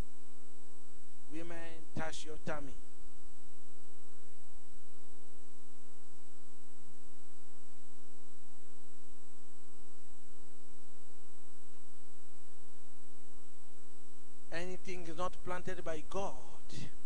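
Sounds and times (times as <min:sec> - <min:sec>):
buzzy mains hum: 0:00.0 - 0:17.0
faint high-pitched whine: 0:00.0 - 0:17.0.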